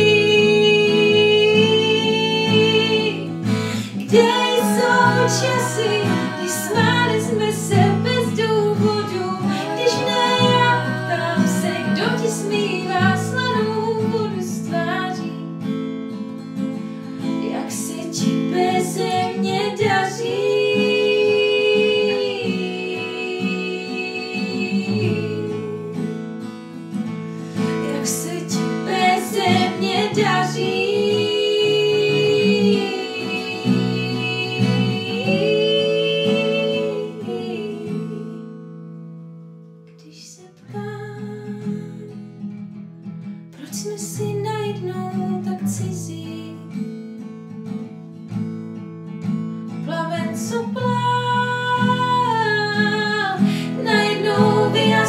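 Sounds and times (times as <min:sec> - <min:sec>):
woman singing a slow ballad: 0:00.0 - 0:15.4, 0:17.2 - 0:26.2, 0:27.5 - 0:38.5, 0:40.0 - 0:42.2, 0:43.6 - 0:46.8, 0:49.8 - 0:55.0
acoustic guitar strumming: 0:00.0 - 0:39.8, 0:50.6 - 0:55.0.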